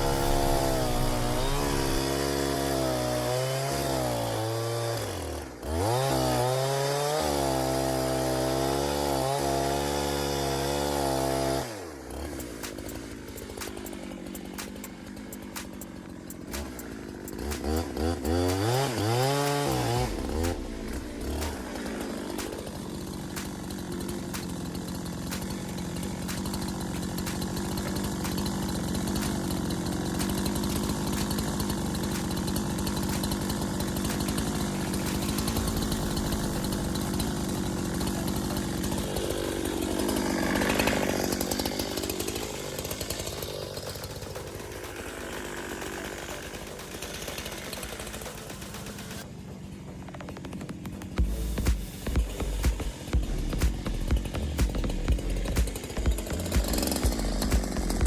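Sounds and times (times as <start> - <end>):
chainsaw cutting timber: 0.0 - 58.0.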